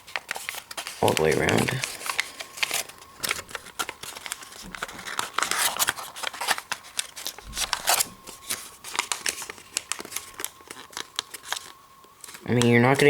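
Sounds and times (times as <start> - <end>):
paper being folded and creased: 0.0 - 13.0.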